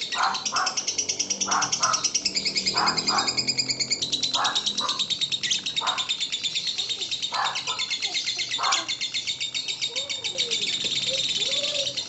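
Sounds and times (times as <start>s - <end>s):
bird chattering trill: 0.0s - 12.0s.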